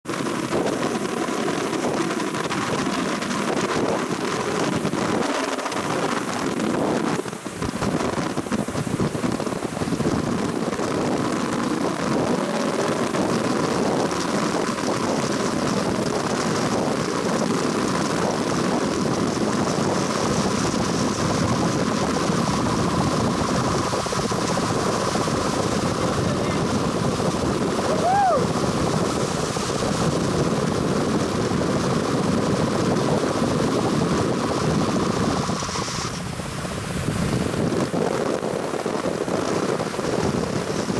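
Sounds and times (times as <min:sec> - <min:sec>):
water rushing past hull: 0:00.0 - 0:40.9
wind buffeting microphone: 0:00.0 - 0:40.9
boat engine: 0:00.1 - 0:40.9.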